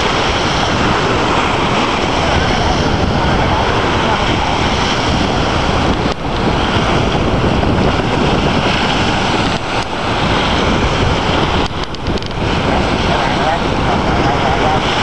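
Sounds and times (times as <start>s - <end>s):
small waves breaking on shore: 0.0s - 15.0s
wind buffeting microphone: 0.0s - 15.0s.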